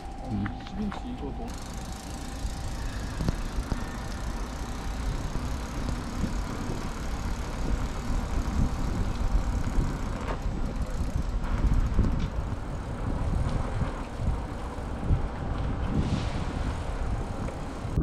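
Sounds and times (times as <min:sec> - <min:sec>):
electric motor whine: 0:00.0 - 0:18.0
tyre and wind rumble: 0:00.0 - 0:18.0.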